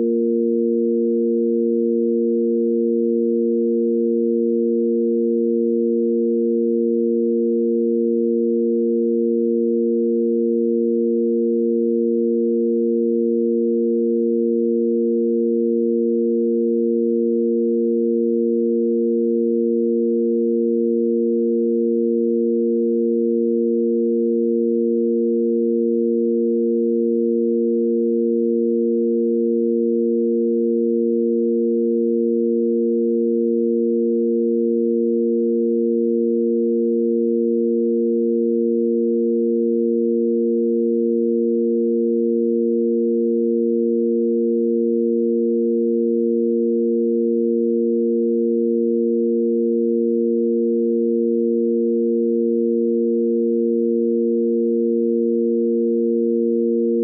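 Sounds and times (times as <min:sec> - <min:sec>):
sine tone drone: 0:00.0 - 0:57.0.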